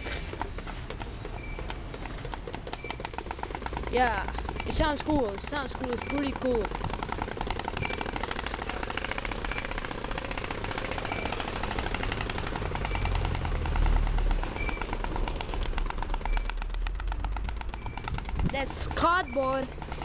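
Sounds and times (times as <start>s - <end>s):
cardboard clattering on bicycle spokes: 0.0s - 20.0s.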